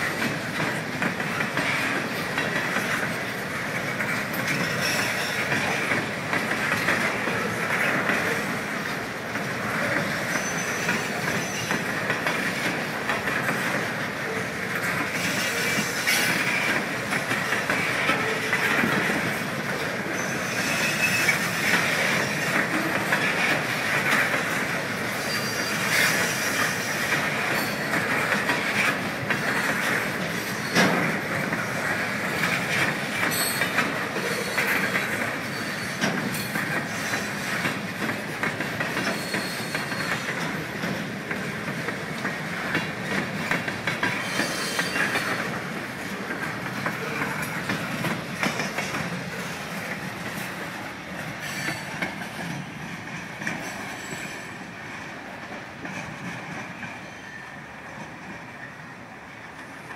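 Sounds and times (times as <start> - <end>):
wheels clicking over rail joints: 0.0 - 54.3
train rolling past on rails: 0.0 - 59.9.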